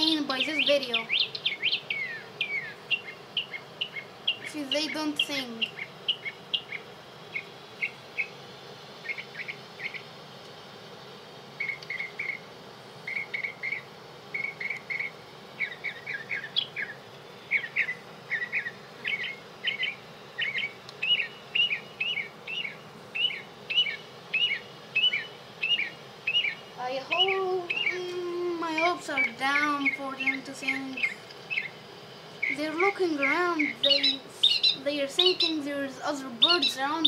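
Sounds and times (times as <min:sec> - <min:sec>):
recorded bird chirps: 0:00.0 - 0:10.3, 0:11.5 - 0:37.0.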